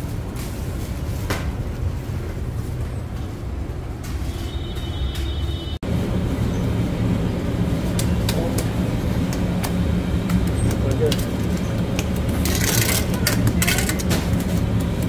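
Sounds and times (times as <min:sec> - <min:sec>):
bakery machinery rumble: 0:00.0 - 0:15.0.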